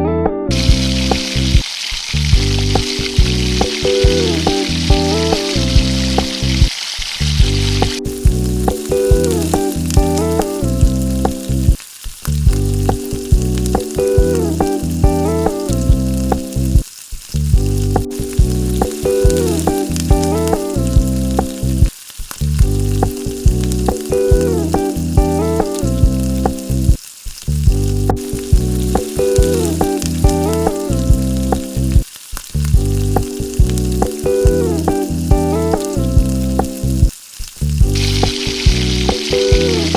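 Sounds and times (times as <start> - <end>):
background music with beat: 0.2 - 1.6, 2.3 - 6.7, 7.3 - 37.1, 37.7 - 39.9
food sizzling in oil: 0.6 - 39.9.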